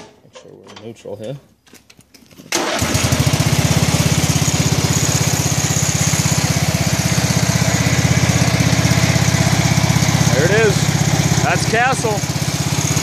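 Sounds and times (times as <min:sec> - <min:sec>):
garden tractor engine running: 0:02.5 - 0:13.0.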